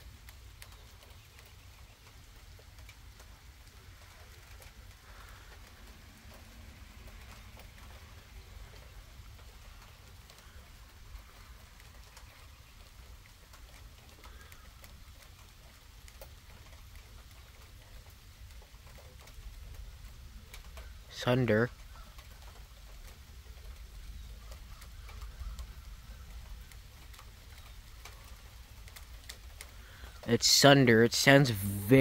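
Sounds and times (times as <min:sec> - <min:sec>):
heavy rain falling: 0:00.0 - 0:32.0
raindrops ticking: 0:00.0 - 0:32.0.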